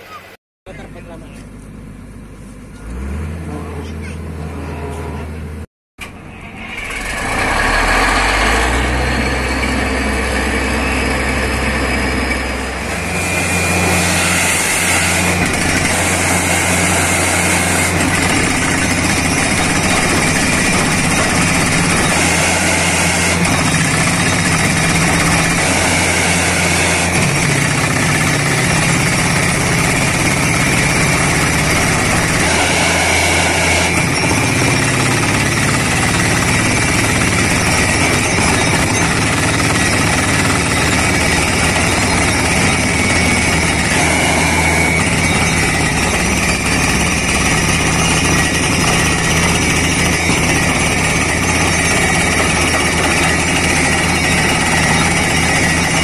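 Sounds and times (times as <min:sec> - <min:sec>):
drilling rig and compressor running: 0:00.7 - 0:56.0
heavy diesel truck engine running: 0:00.7 - 0:56.0.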